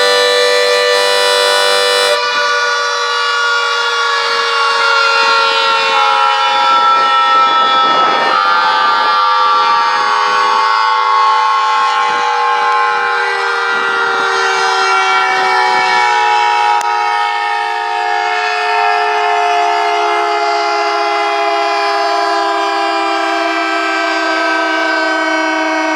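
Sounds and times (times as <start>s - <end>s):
siren sounding a steady chord: 0.0s - 25.9s.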